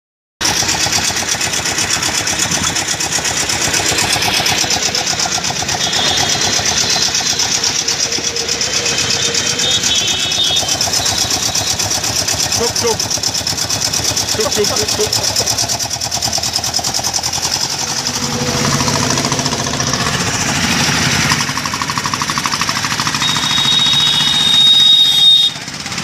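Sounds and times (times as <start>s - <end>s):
small engine idling: 0.4s - 26.0s.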